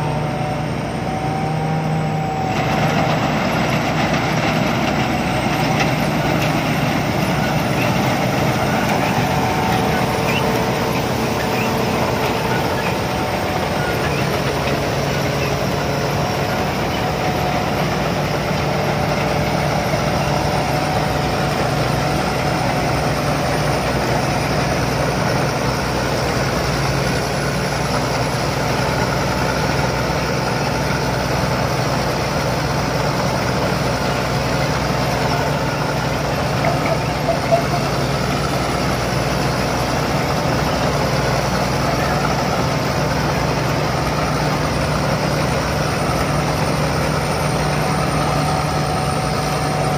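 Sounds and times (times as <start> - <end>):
combine harvester engine running: 0.0 - 49.9.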